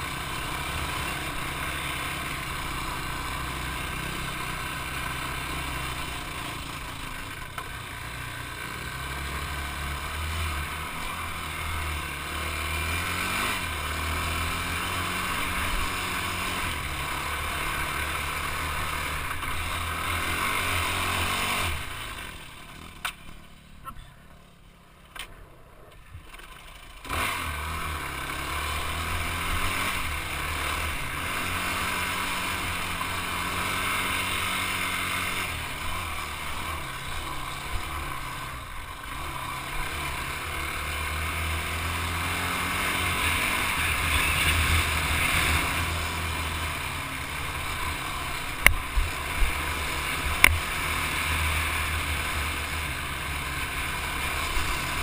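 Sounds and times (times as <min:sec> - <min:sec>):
quad engine running: 0:00.0 - 0:55.0.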